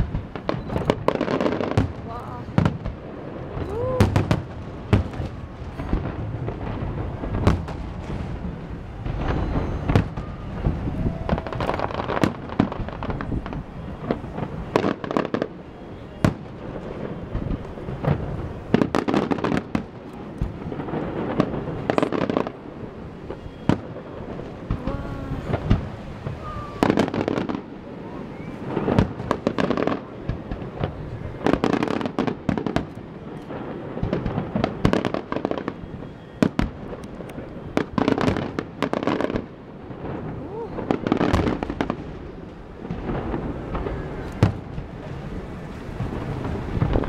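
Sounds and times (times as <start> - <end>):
fireworks bursting: 0.0 - 47.0.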